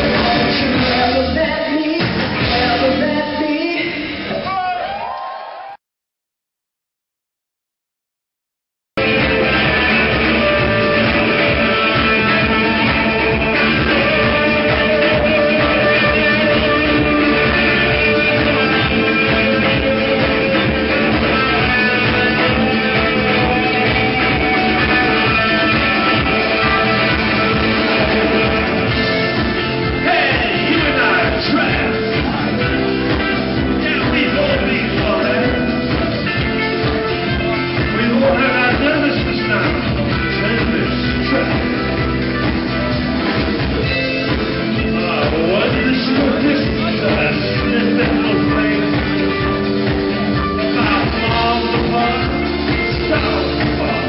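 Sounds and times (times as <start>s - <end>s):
electric guitars: 0.0s - 4.5s, 9.0s - 54.0s
person singing: 0.0s - 4.5s, 9.0s - 41.8s, 44.0s - 54.0s
rock band playing live: 0.0s - 4.6s, 9.0s - 54.0s.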